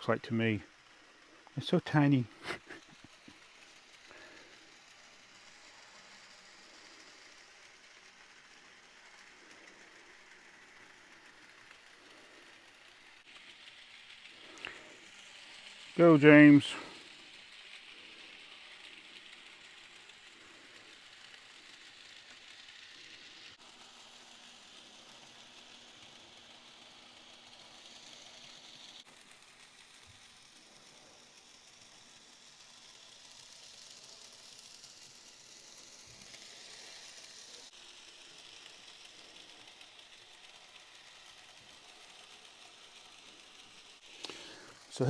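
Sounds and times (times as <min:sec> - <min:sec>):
small electric motor whirring: 0:00.0 - 0:45.0.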